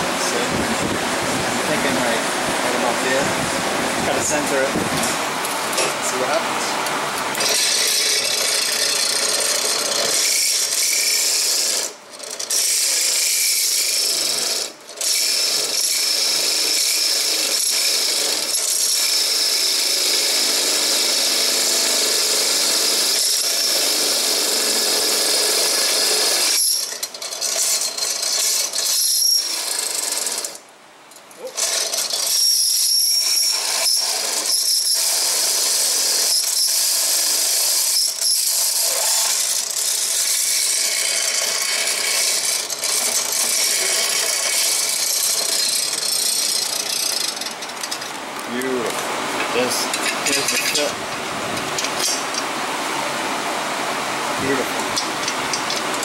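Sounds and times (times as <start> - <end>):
drill press grinding whine: 6.8 - 52.6, 54.3 - 56.0.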